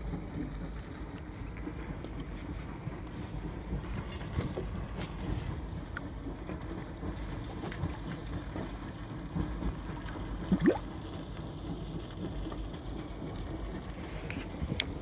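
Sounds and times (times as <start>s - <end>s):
water gurgling and sloshing: 0.0s - 15.0s.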